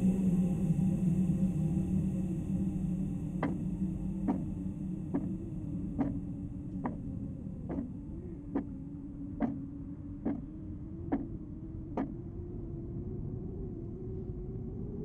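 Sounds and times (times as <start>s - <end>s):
low drone over rumble: 0.0s - 15.0s.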